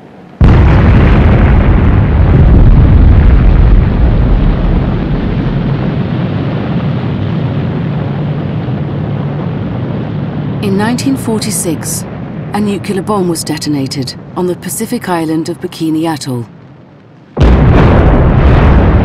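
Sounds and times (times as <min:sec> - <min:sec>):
explosion rumble: 0:00.4 - 0:14.9, 0:16.4 - 0:19.0.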